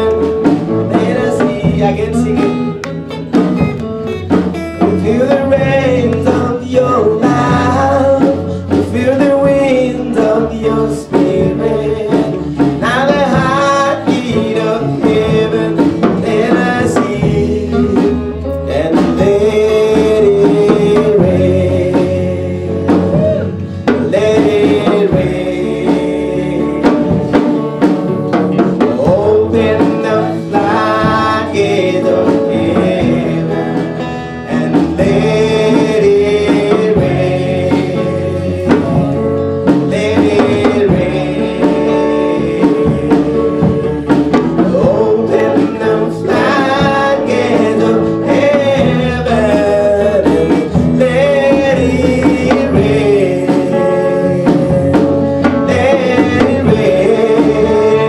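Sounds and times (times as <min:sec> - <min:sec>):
instrumental accompaniment: 0:00.0 - 0:58.0
person singing gospel song: 0:00.0 - 0:58.0.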